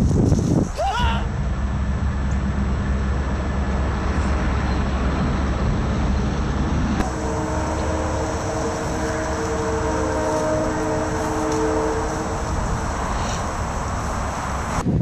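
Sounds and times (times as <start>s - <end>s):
distant traffic rumble: 0.0s - 15.0s
steady multi-pitched drone: 1.3s - 14.8s.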